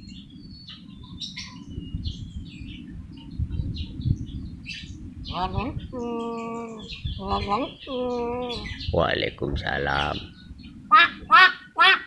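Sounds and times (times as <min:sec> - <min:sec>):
bird chirping and twittering: 0:00.0 - 0:12.0.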